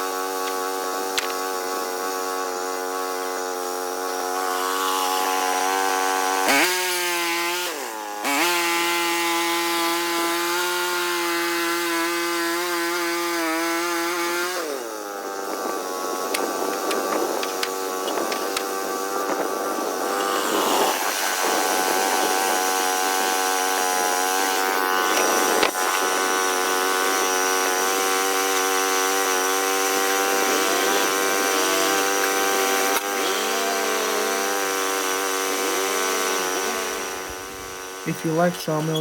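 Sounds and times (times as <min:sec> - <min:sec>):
saw cutting: 0:00.0 - 0:39.0
sawmill engine drone: 0:00.0 - 0:39.0.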